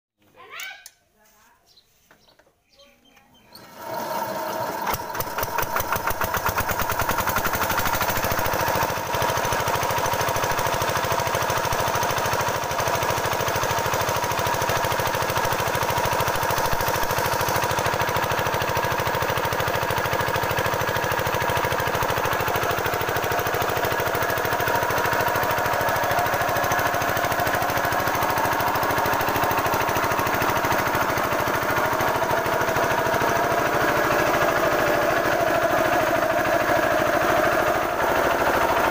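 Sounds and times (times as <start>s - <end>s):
diesel engine knocking: 4.9s - 38.9s.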